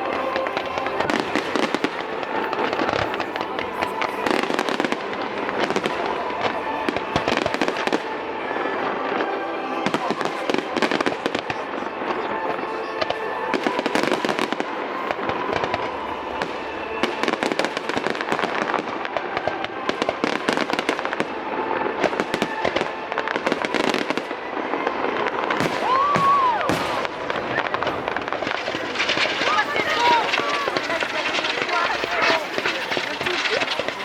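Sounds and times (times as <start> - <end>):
faint music: 0.0 - 34.0
fireworks bangs and crackles: 0.0 - 34.0.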